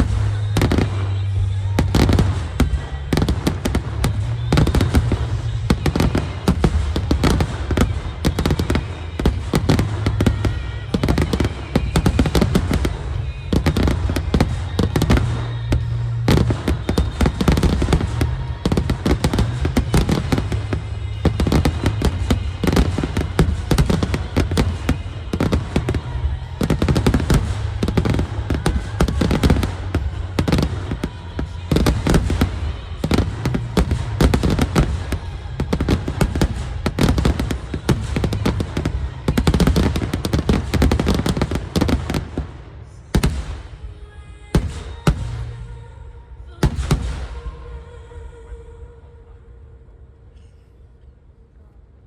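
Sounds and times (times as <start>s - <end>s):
fireworks bursting: 0.0s - 48.8s.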